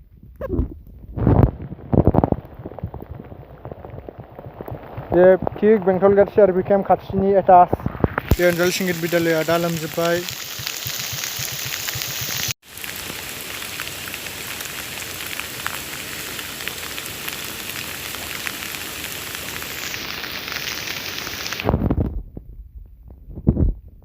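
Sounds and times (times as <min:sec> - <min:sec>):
raindrops pattering: 0:00.8 - 0:21.9
steady rain hissing: 0:01.2 - 0:22.0.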